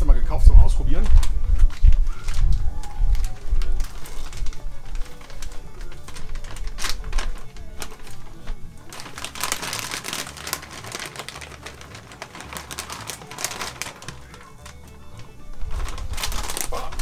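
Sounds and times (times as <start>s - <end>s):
background music: 0.0s - 17.0s
paper and plastic bag crinkling: 0.9s - 17.0s
wood chips rattling out of bag: 1.0s - 17.0s.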